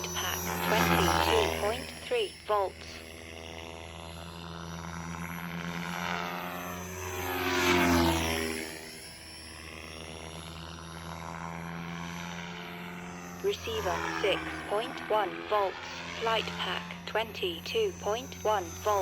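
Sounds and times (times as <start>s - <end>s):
rc helicopter rotor whining: 0.0s - 19.0s.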